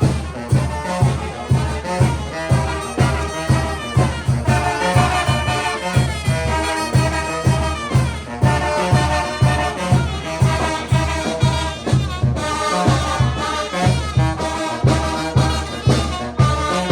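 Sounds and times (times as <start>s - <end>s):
brass band music: 0.0s - 16.9s.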